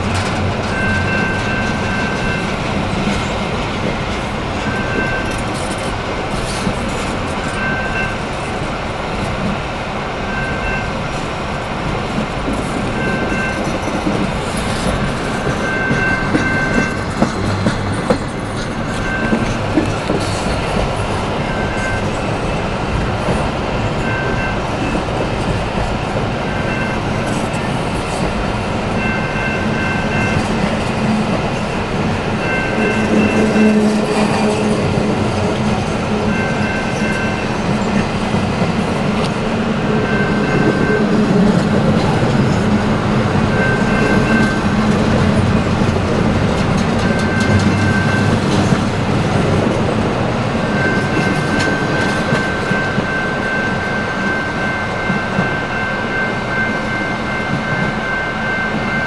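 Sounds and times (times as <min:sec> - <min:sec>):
freight train wheels on rails: 0:00.0 - 0:59.0
level-crossing warning bell: 0:00.0 - 0:59.0.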